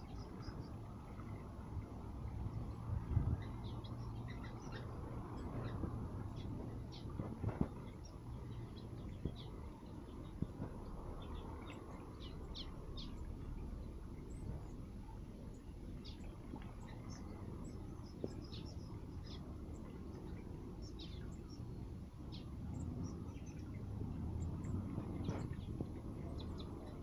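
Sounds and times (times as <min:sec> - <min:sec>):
low background rumble: 0:00.0 - 0:27.0
small birds chirping: 0:00.0 - 0:27.0.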